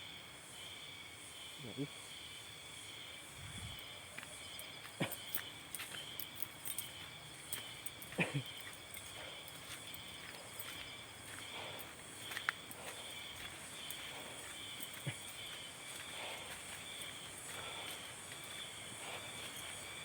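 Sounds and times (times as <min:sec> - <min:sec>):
insects droning: 0:00.0 - 0:20.0
footsteps on muddy trail: 0:03.8 - 0:20.0.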